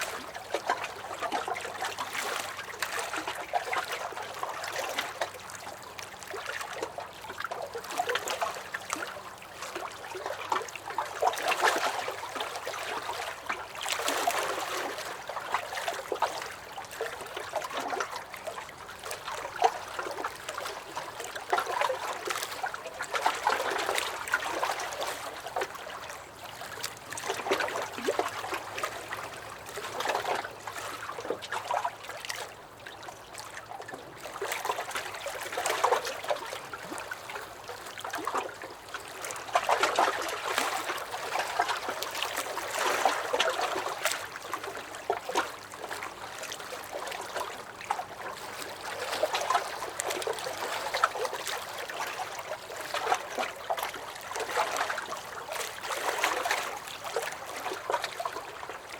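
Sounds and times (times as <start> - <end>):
waves lapping against a dock: 0.0 - 58.9.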